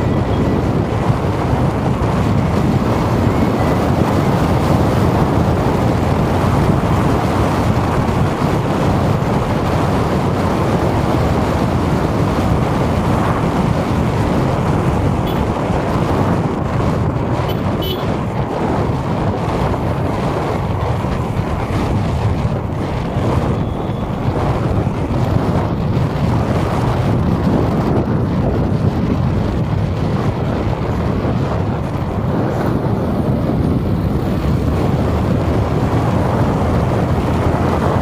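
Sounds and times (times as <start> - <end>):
low traffic rumble: 0.0 - 38.0.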